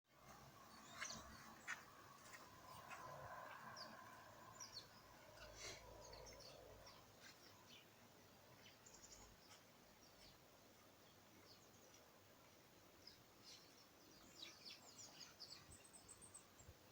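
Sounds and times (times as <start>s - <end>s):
small birds chirping: 0.2s - 16.9s.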